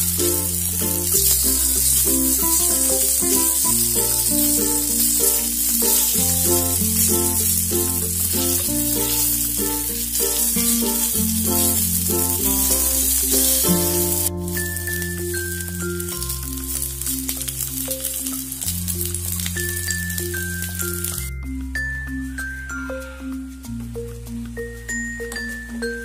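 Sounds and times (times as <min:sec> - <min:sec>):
dumplings sizzling in oil: 0:00.0 - 0:21.3
background music with bass notes: 0:00.0 - 0:26.0.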